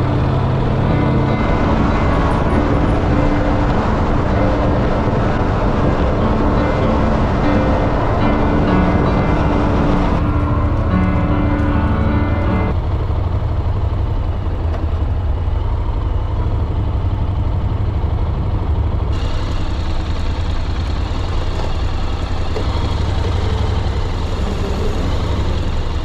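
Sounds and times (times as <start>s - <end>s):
motorcycle engine rumble: 0.0s - 26.0s.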